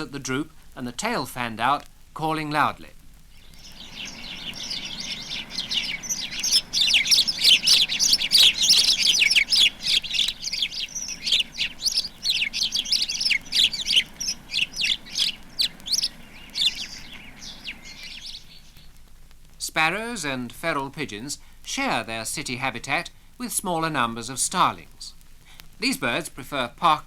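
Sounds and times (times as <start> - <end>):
sparrows chirping: 0.0 - 19.1, 19.7 - 27.0.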